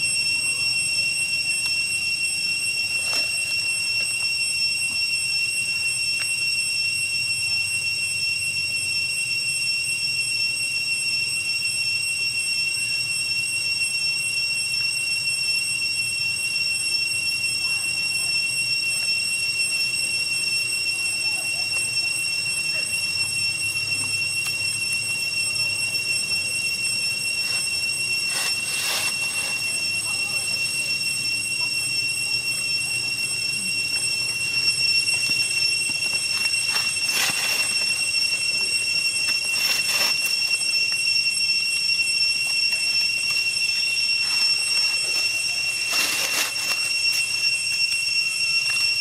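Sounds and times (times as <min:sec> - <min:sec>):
cicadas droning: 0:00.0 - 0:49.0.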